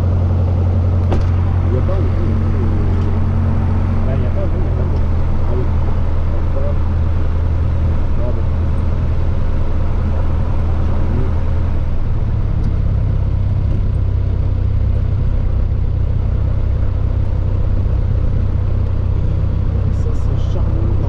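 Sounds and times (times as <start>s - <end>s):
light aircraft engine and propeller: 0.0s - 21.0s.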